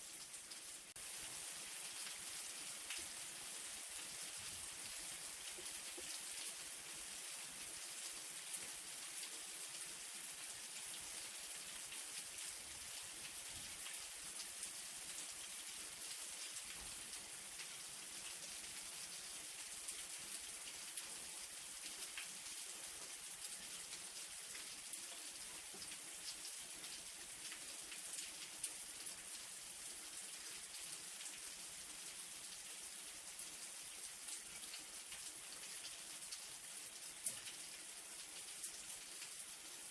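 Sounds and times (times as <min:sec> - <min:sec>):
light rain hiss: 0:00.0 - 0:39.9
raindrops ticking on surfaces: 0:00.0 - 0:39.9.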